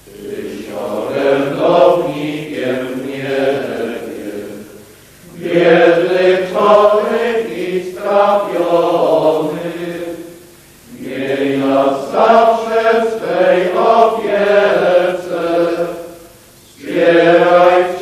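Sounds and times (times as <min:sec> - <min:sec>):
men's choir singing a hymn: 0:00.0 - 0:18.0.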